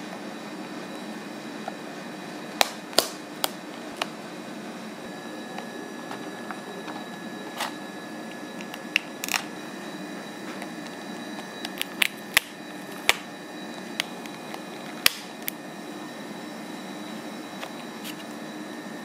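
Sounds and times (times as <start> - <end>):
hum of room machinery: 0.0 - 19.0.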